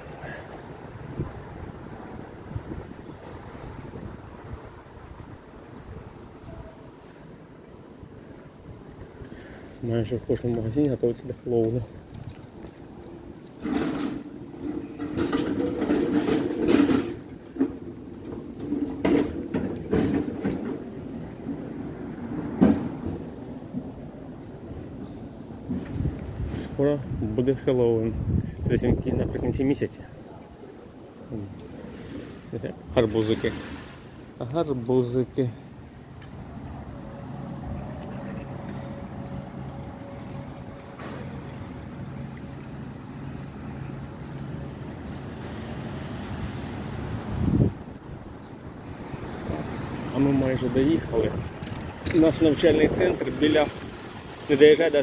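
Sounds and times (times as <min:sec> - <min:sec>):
tyre noise on wet road: 0:00.0 - 0:55.0
wheels rattling on cobblestones: 0:00.0 - 0:55.0.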